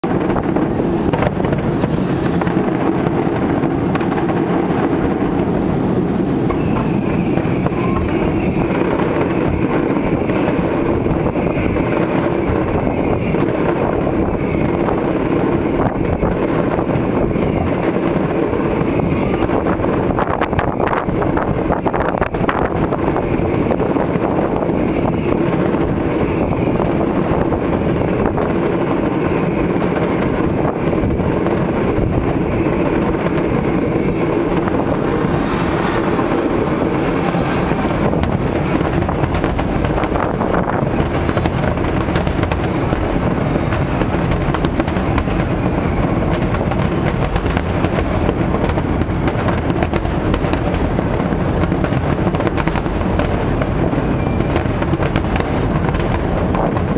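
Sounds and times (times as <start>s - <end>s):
fireworks rumbling: 0.0s - 56.9s
fireworks sharp cracks: 0.0s - 56.9s.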